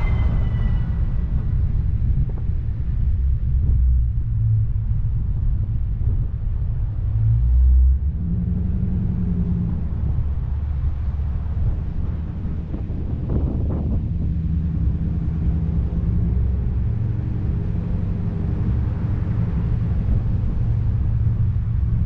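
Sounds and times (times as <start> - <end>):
car engine and road rumble: 0.0 - 22.0
wind noise: 0.0 - 22.0.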